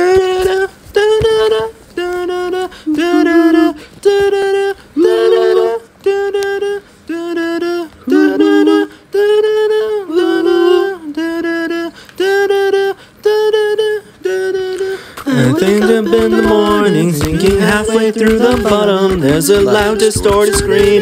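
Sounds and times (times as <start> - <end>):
person singing wordless melody: 0.0 - 21.0.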